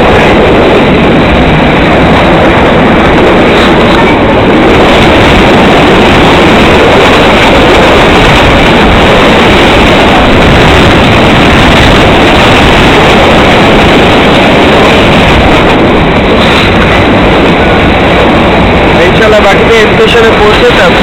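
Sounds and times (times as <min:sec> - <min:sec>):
passenger train running noise: 0:00.0 - 0:21.0.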